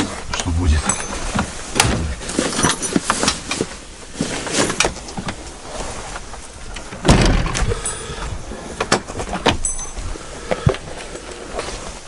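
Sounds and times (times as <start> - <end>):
knocks clicks and rustling of gear: 0.0 - 12.0.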